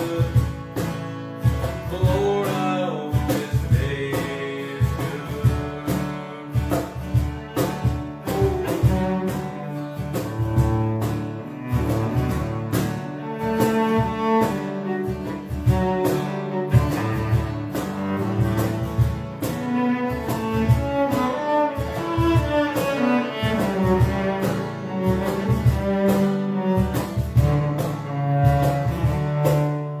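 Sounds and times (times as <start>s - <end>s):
country band playing: 0.0s - 30.0s.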